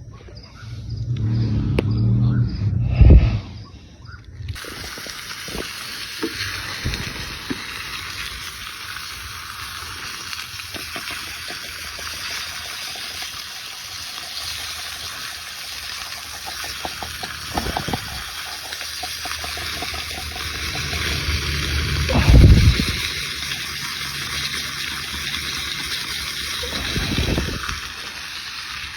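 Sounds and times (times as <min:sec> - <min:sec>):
food sizzling in a pan: 0:04.6 - 0:28.9.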